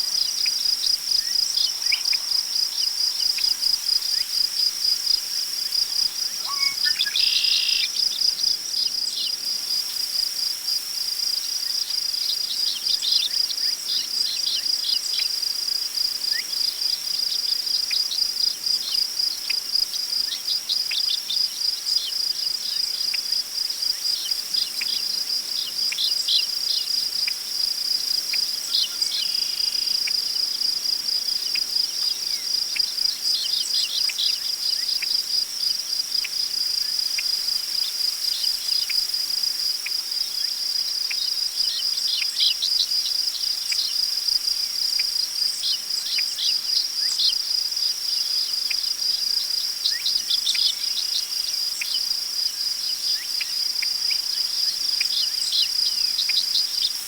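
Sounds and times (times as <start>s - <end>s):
crickets trilling: 0.0s - 57.0s
wind through tall grass: 0.0s - 57.0s.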